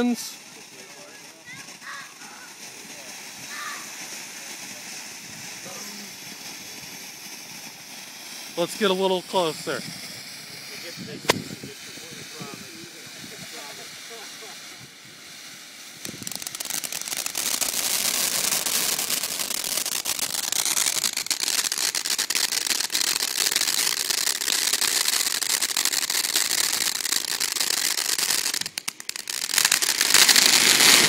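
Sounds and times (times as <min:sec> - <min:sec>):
firework fountain hissing crackle: 0:00.0 - 0:31.0.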